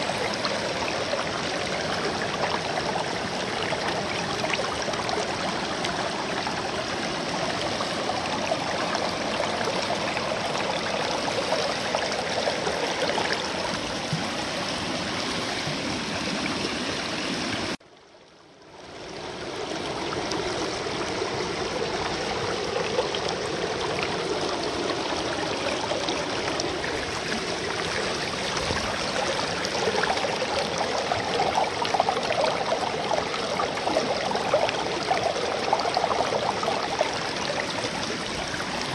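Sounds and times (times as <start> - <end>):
water rushing over rocks: 0.0 - 17.8, 19.4 - 38.9.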